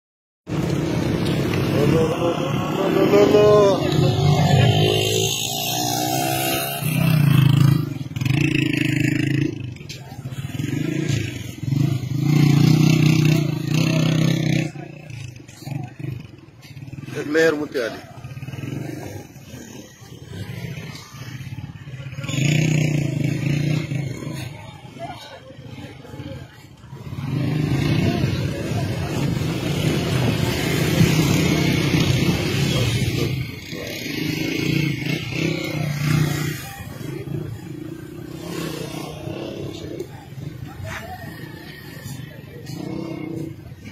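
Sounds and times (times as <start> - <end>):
men's voices: 0.6 - 43.9.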